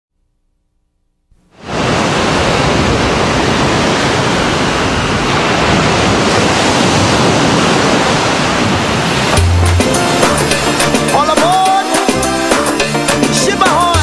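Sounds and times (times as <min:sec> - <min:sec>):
waves rushing onto beach: 0:01.5 - 0:14.0.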